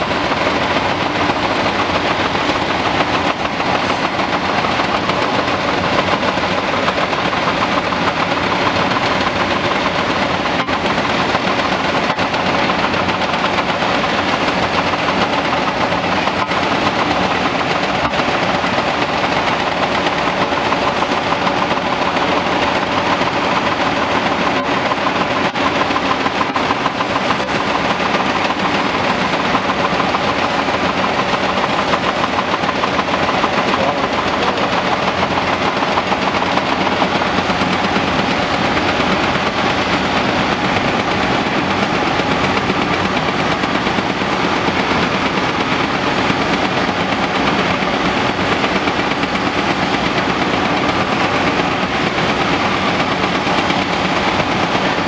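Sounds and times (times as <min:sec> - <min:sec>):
hydraulic breaker pounding concrete: 0:00.0 - 0:55.0.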